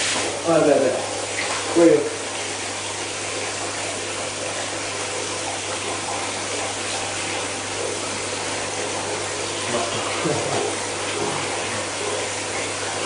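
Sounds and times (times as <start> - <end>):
water running in a bath: 0.0 - 13.0.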